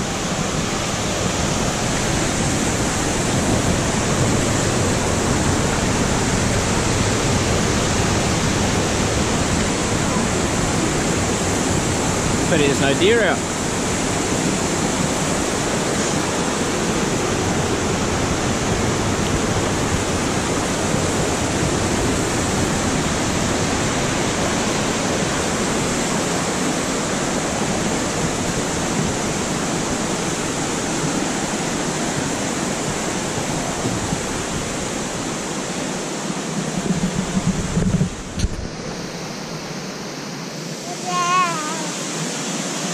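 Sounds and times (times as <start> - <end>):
creek water rushing over boulders: 0.0 - 42.9.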